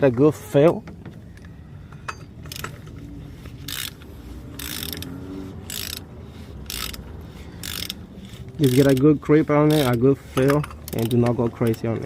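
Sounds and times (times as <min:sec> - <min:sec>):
ratchet wrench clicking: 0:02.2 - 0:12.0.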